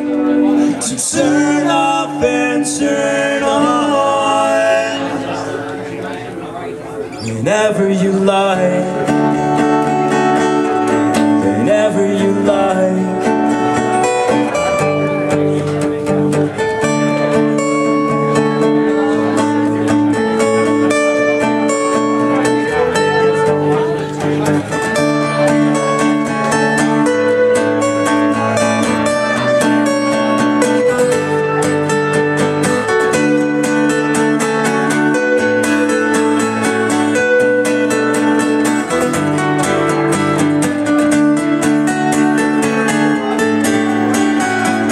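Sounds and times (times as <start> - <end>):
acoustic guitar strumming chords: 0.0 - 44.9.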